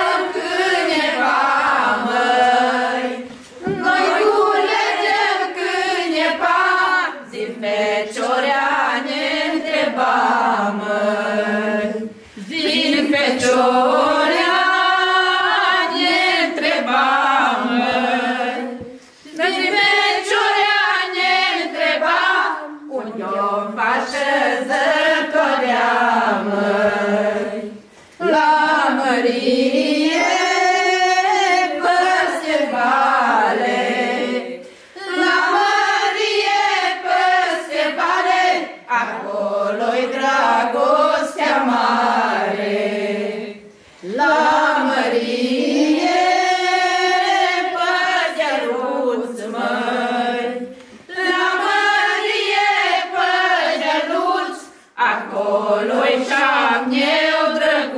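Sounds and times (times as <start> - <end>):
girls and women singing: 0.0 - 57.9.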